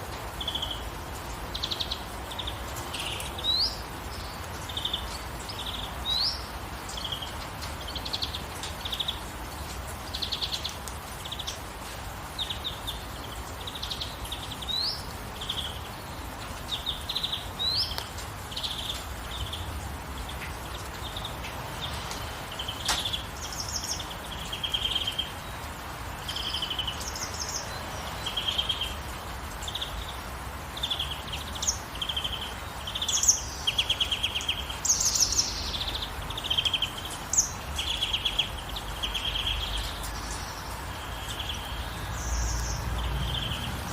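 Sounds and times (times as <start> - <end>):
rain hiss: 0.0 - 43.9
songbirds chirping and trilling: 0.0 - 43.9.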